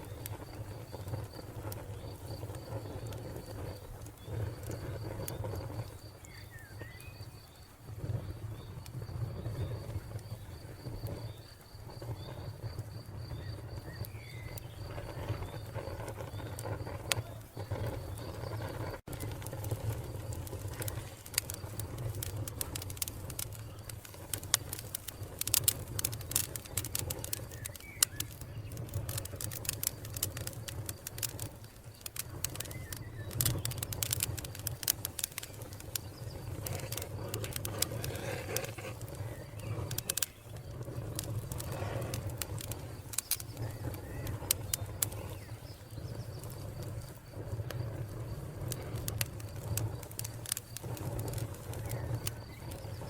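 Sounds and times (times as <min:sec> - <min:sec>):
birds calling faintly: 0:00.0 - 0:53.0
wood fire crackling and popping: 0:00.0 - 0:53.0.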